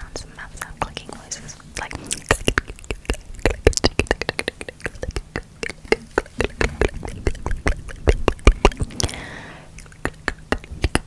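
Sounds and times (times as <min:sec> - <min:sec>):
wet mouth tongue clicks: 0:01.7 - 0:11.0.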